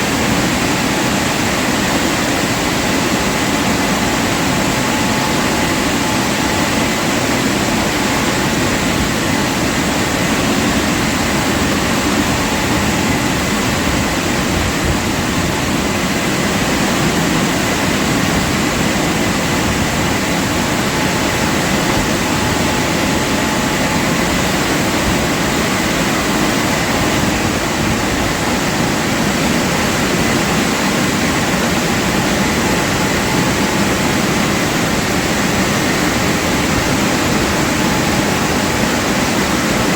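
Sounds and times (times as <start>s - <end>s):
car wash machinery rushing: 0.0s - 39.9s
faint steady whine: 0.0s - 39.9s.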